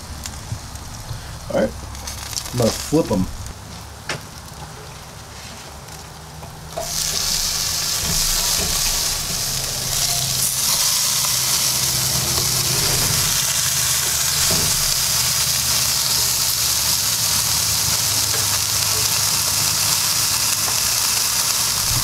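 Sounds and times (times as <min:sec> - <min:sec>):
ribs sizzling on a grill: 0:00.0 - 0:22.0.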